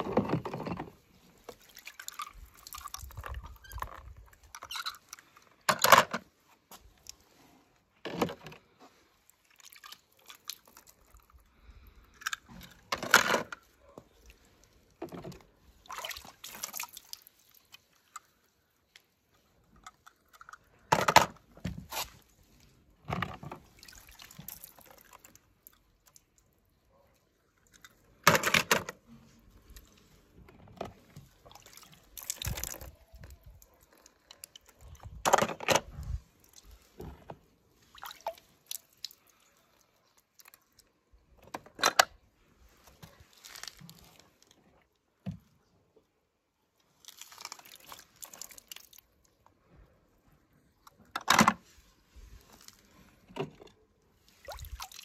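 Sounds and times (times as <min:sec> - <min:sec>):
water splashing in a plastic tub: 0:00.0 - 0:55.0.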